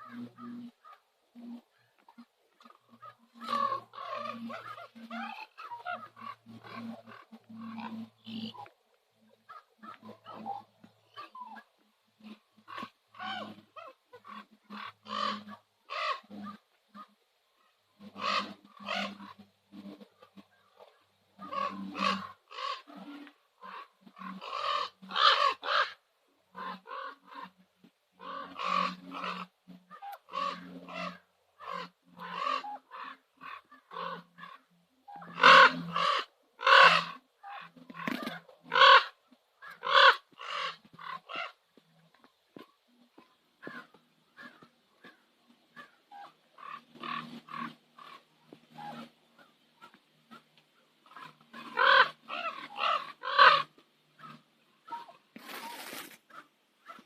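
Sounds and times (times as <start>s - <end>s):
ravens croaking: 0.0s - 57.0s.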